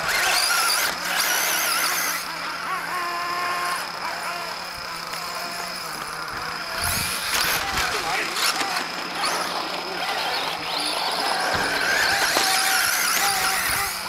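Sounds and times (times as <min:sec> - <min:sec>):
electric motor high whine: 0:00.0 - 0:14.0.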